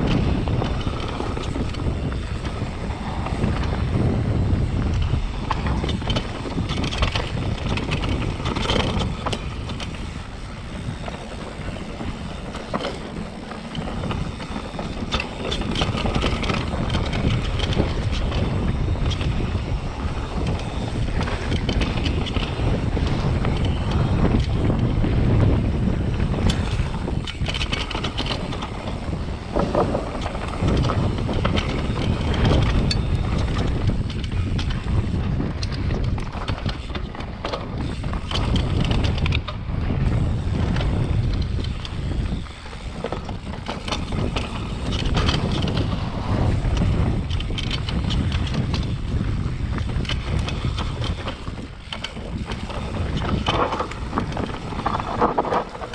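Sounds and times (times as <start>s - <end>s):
bike rattling over bumps: 0.0s - 55.9s
bike tyres on dirt: 0.0s - 55.9s
wind rumble on microphone: 0.0s - 55.9s.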